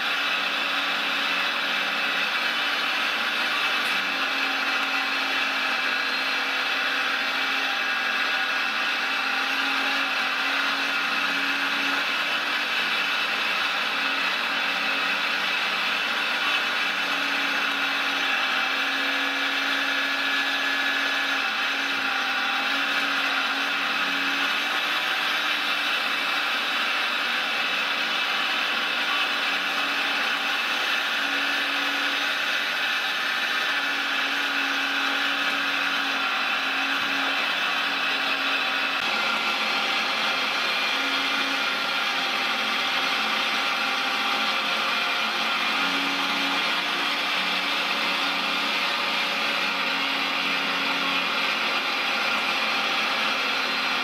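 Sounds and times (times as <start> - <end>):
electric motor whine: 0.0 - 54.0.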